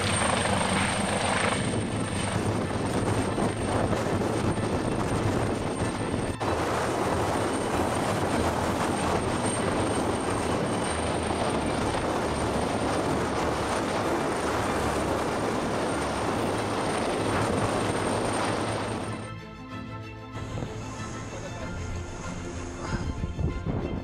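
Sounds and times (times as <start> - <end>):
helicopter hovering: 0.0 - 24.0
wind: 0.0 - 24.0.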